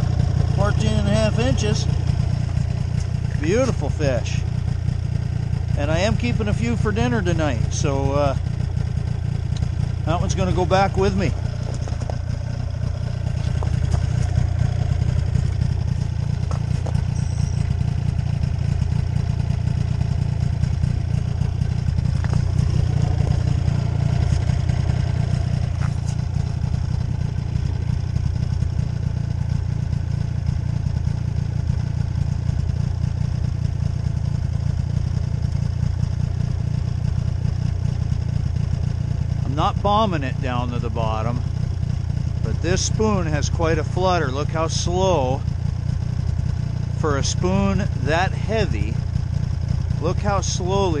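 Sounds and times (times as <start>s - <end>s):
snowmobile engine idling: 0.0s - 51.0s.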